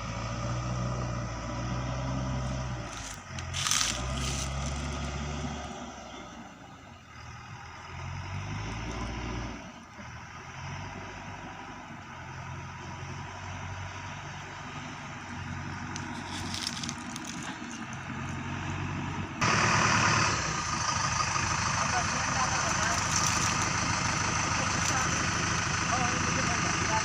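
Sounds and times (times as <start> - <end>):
backhoe diesel engine revving: 0.0 - 27.0.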